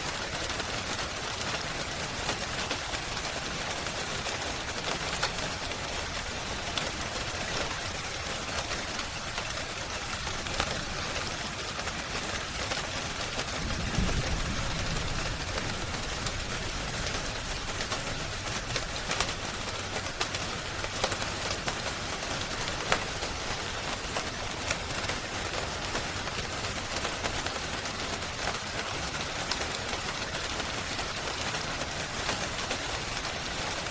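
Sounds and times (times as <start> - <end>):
steady rain: 0.0 - 33.9
fire crackling: 0.1 - 33.9.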